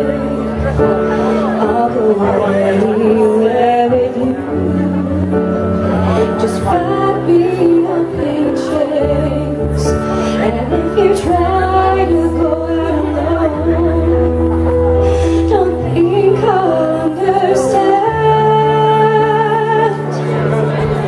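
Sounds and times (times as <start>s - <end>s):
young woman singing: 0.0s - 20.3s
slow ballad backing track: 0.0s - 21.0s.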